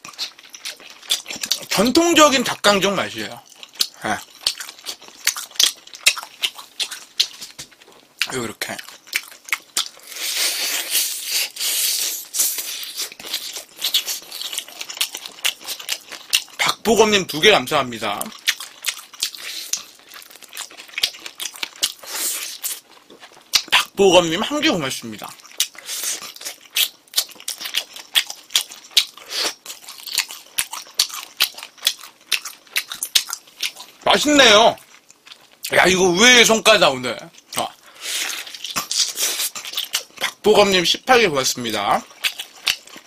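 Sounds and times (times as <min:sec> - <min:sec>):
crunching and chewing food: 0:00.0 - 0:43.0.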